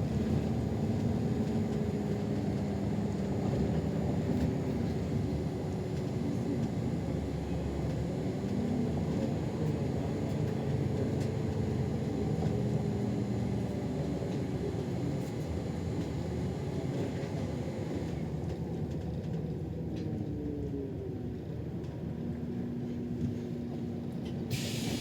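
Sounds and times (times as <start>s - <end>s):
bus engine rumble and road noise: 0.0s - 25.0s.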